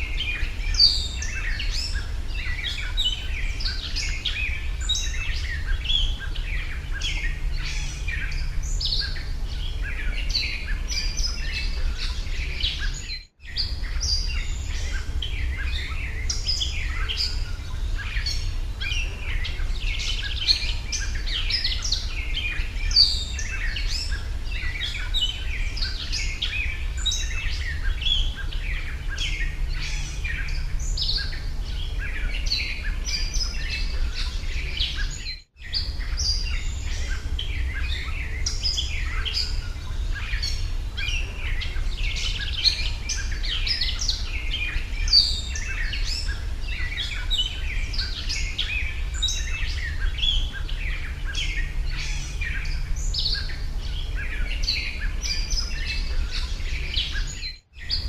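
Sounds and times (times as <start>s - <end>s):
steady low rumble: 0.0s - 57.2s
small birds chirping and singing: 0.0s - 58.0s.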